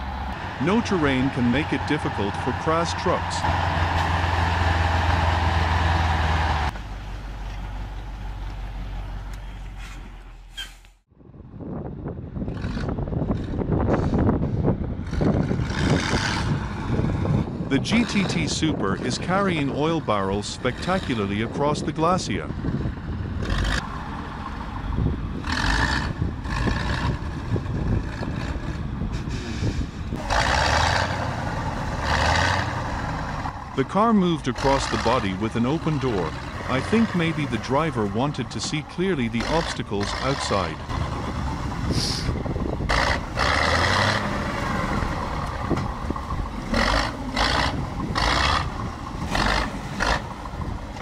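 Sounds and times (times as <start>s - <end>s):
vehicle engine under load: 0.0s - 51.0s.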